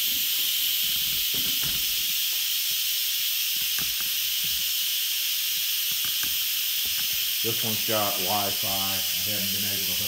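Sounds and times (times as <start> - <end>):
steam hissing from valve: 0.0 - 10.0.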